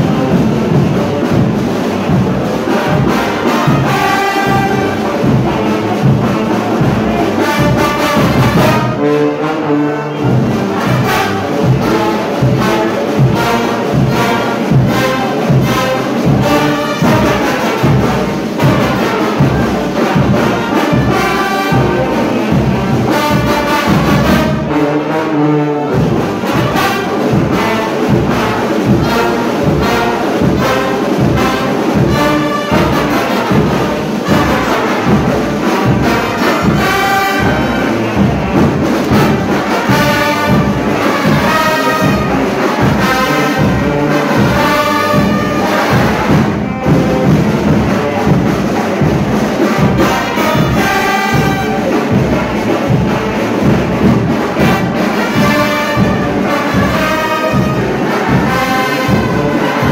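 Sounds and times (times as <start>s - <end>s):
brass band playing loud: 0.0s - 59.9s
steady drum beat: 0.0s - 59.9s.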